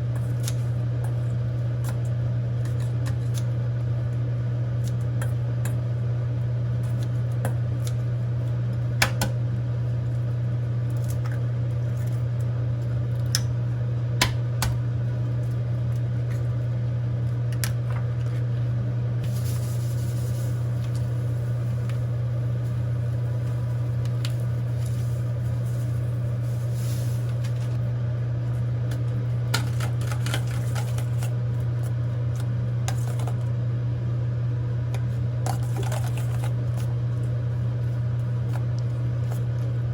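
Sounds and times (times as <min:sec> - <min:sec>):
kitchen appliance humming: 0:00.0 - 0:39.9.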